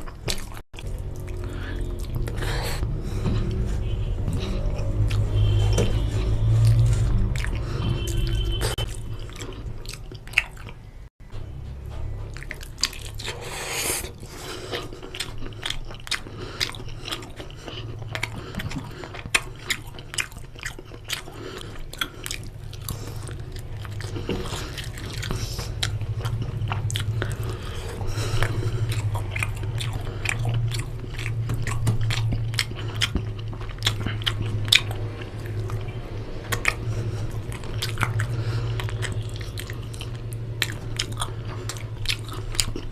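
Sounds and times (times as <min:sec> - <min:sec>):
person chewing food: 0:00.0 - 0:11.1, 0:12.0 - 0:42.9.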